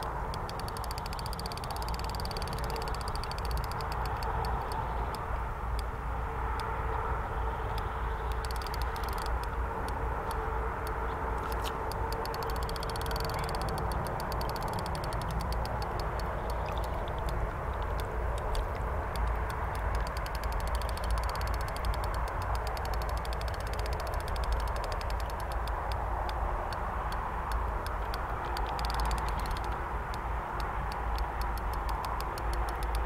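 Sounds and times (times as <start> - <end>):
short clicks: 0.0 - 5.2, 7.7 - 33.0
low outdoor rumble: 0.0 - 33.0.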